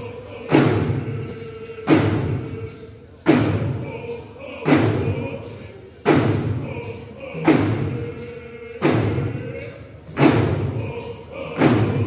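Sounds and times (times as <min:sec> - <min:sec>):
drum beating slowly: 0:00.0 - 0:12.0
voices singing: 0:00.0 - 0:12.0.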